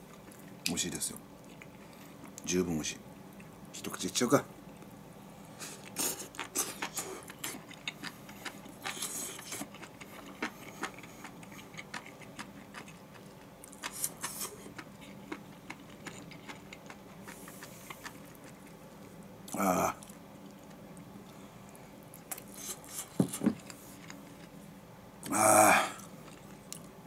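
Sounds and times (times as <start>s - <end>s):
person chewing food: 1.4s - 2.4s, 5.6s - 27.0s.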